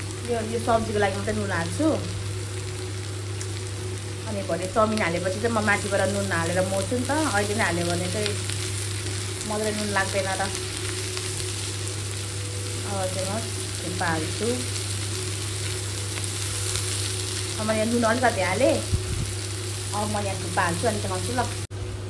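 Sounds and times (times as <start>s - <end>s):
food sizzling in a frying pan: 0.0s - 21.8s.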